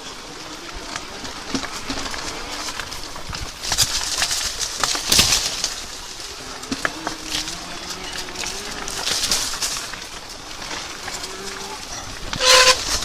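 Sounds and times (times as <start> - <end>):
bike tyre noise: 0.0 - 13.0.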